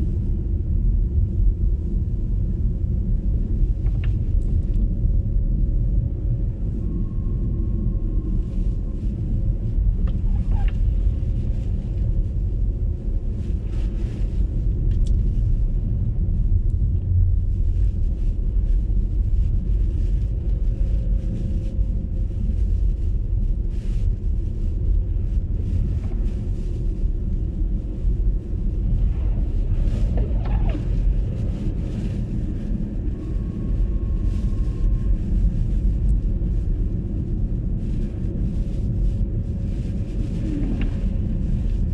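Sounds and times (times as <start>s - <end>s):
car road and tyre rumble: 0.0s - 41.9s.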